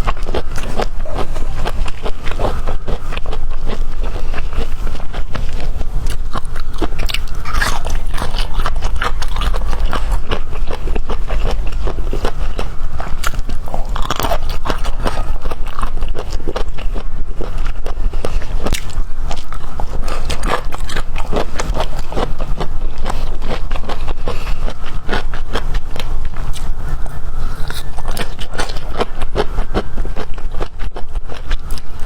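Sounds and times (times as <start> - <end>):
person chewing crunchy food: 0.0 - 32.0
steady low hum: 0.0 - 32.0.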